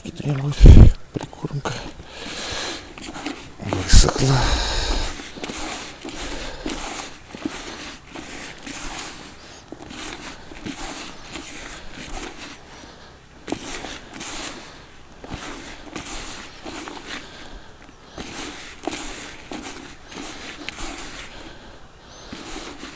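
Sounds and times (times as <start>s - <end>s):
hands mixing groundbait: 0.2s - 22.9s.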